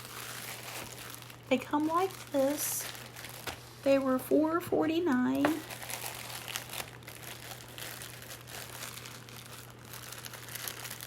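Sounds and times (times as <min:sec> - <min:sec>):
plastic packaging crinkling: 0:00.0 - 0:11.0
steady low hum: 0:00.0 - 0:11.0.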